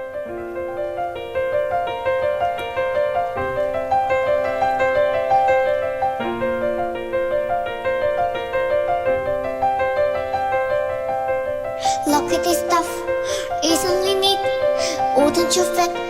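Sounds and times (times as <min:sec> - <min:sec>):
piano arpeggios: 0:00.0 - 0:16.0.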